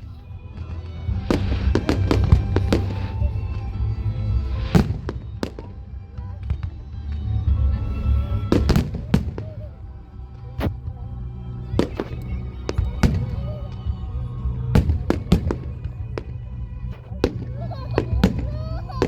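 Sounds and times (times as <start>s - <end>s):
fireworks exploding: 0.0s - 11.0s, 11.7s - 19.0s
low rumble: 0.0s - 19.0s.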